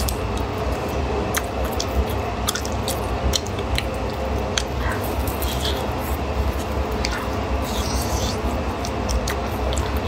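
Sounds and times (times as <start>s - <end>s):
close chewing: 0.0s - 10.0s
steady low hum: 0.0s - 10.0s.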